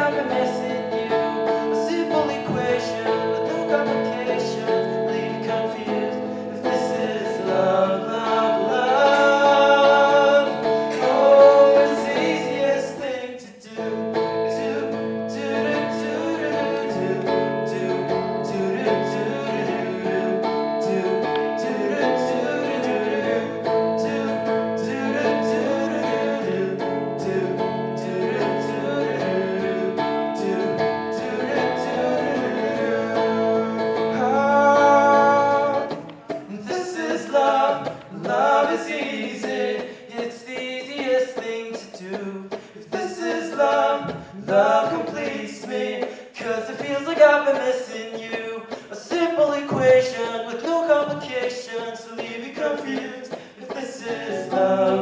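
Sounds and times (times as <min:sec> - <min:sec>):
electric guitar: 0:00.0 - 0:55.0
man singing: 0:00.0 - 0:55.0.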